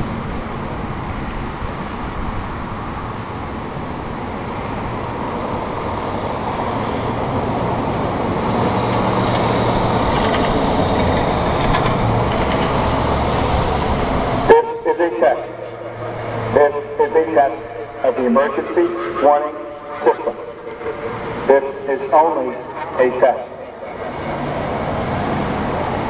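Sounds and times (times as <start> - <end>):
passing vehicles rushing: 0.0 - 26.0.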